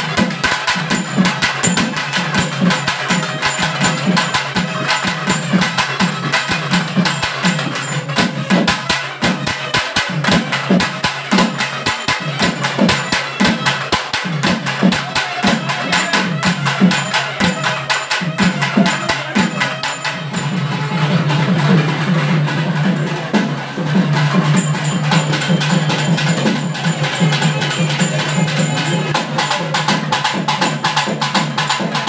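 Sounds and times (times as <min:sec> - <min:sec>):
hand drum beating: 0:00.0 - 0:32.0.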